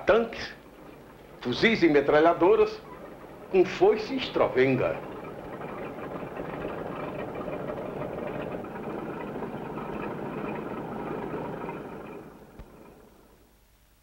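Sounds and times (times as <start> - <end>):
vehicle engine running: 0.0 - 13.5.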